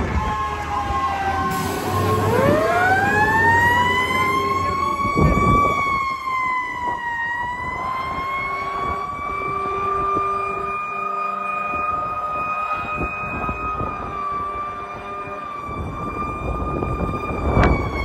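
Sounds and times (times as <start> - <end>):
fire engine siren wailing: 0.0 - 18.0.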